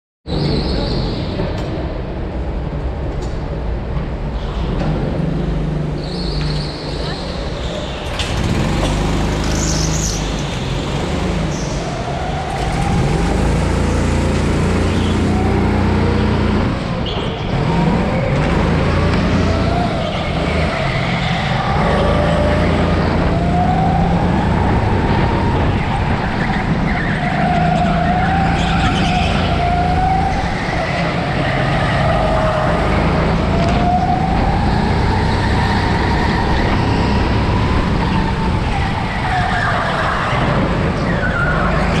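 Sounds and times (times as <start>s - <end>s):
go-kart motor revving: 7.8s - 42.0s.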